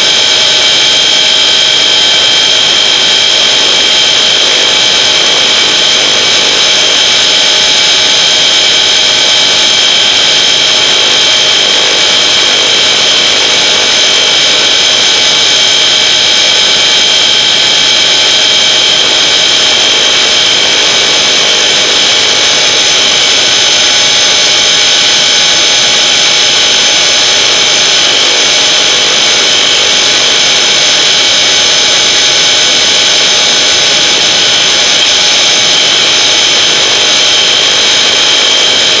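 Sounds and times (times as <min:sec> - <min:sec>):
rc car motor whine: 0:00.0 - 0:39.0.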